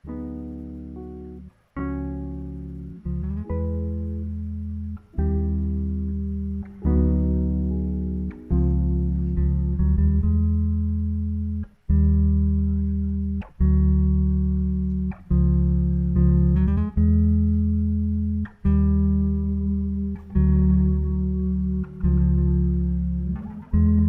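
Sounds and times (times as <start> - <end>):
low plucked notes ringing: 0.0 - 24.0.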